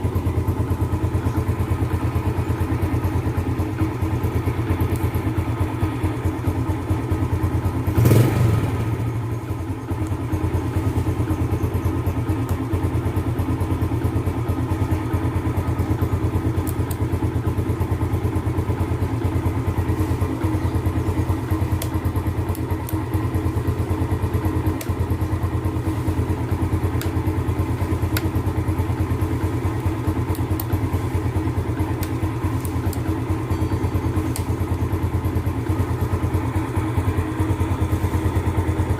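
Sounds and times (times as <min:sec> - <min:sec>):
motorcycle engine idling: 0:00.0 - 0:38.9
engine knock: 0:00.1 - 0:19.8, 0:20.4 - 0:38.9.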